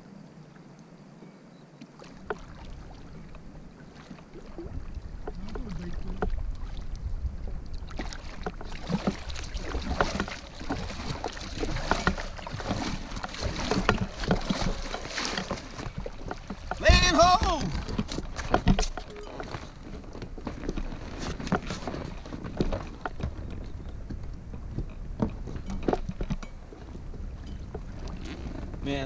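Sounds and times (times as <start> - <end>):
paddle strokes splashing: 1.8 - 29.0
water slapping against hull: 1.8 - 29.0
low wind rumble on microphone: 2.2 - 29.0.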